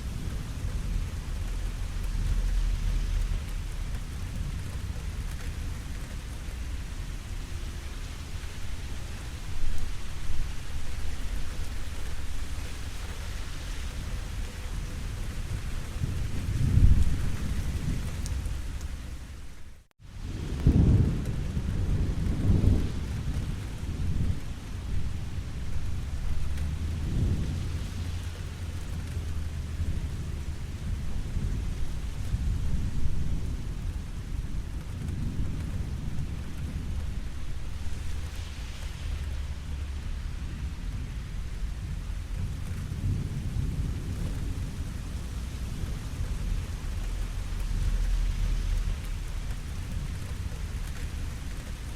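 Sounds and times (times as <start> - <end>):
steady rain falling: 0.0 - 51.9
thunder rumbling: 0.0 - 51.9.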